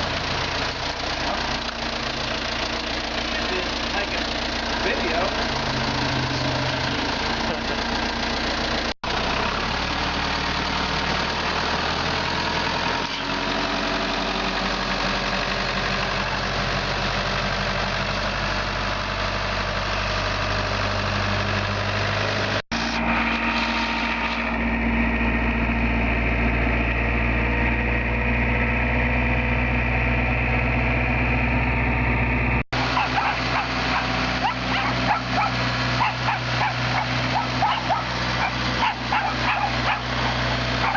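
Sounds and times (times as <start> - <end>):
deep engine hum: 0.0 - 40.9
engine idling: 0.0 - 40.9.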